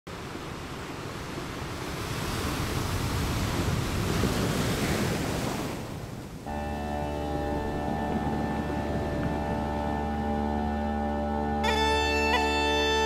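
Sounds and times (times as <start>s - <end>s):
sea surf: 0.1s - 13.0s
wind: 0.1s - 13.0s.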